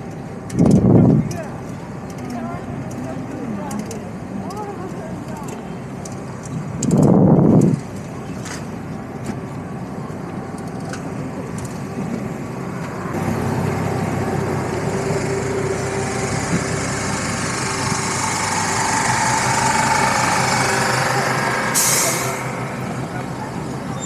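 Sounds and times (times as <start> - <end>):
heavy engine hum: 0.0 - 24.0
vehicle engines running: 0.0 - 24.0.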